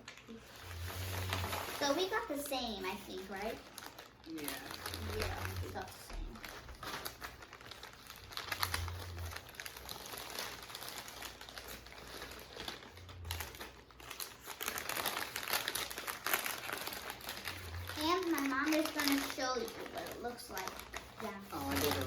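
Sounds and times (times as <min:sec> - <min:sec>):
wrapping paper crinkling: 0:00.0 - 0:22.0.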